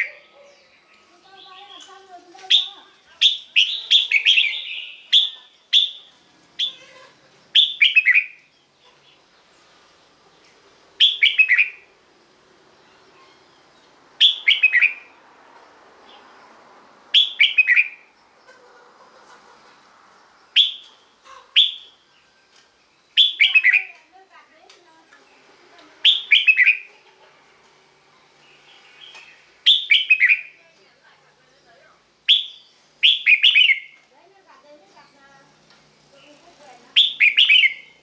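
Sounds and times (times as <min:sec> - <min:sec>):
bird singing: 0:00.0 - 0:12.0, 0:12.8 - 0:15.2, 0:17.1 - 0:18.6, 0:20.3 - 0:38.0.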